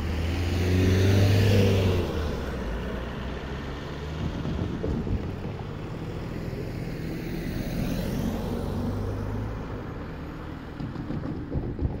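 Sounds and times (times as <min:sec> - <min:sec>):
car driving past: 0:00.0 - 0:11.9.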